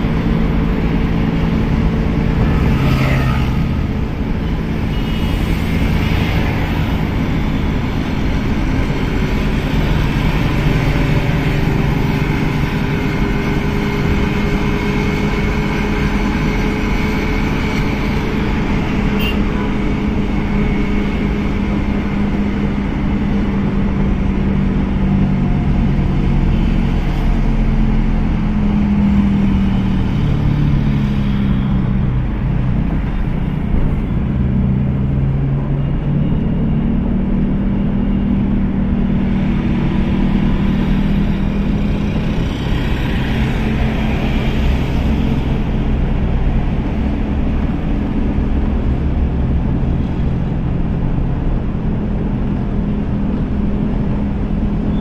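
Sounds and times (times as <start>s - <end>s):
car engine hum: 0.0s - 55.0s
road noise inside car: 0.0s - 55.0s.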